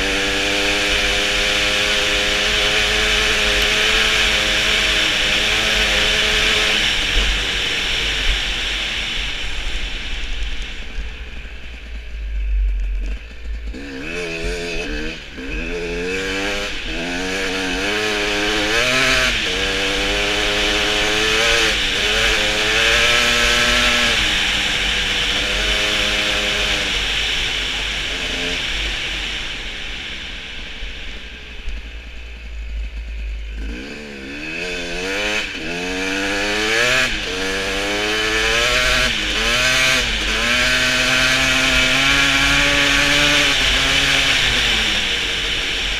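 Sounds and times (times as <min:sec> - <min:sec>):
motorcycle engine revving through gears: 0:00.0 - 0:45.9.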